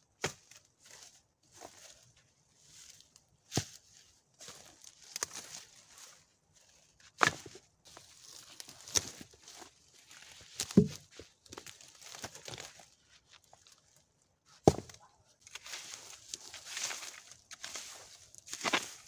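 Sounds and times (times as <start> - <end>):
boots crunching on pine needles: 0.3 - 14.0, 14.6 - 19.0.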